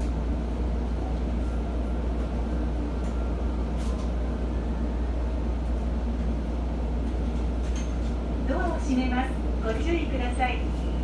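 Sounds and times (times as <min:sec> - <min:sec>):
electric train humming: 0:00.1 - 0:11.0.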